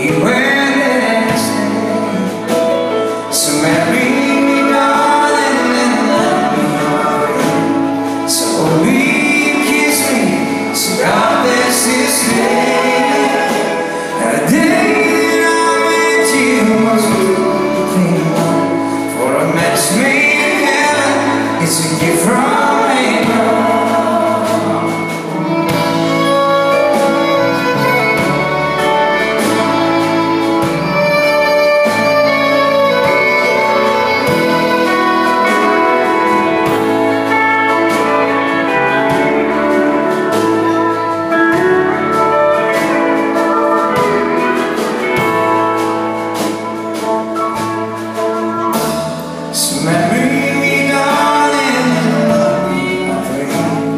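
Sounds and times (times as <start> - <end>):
country band playing: 0.0 - 53.9
person singing: 0.0 - 53.9.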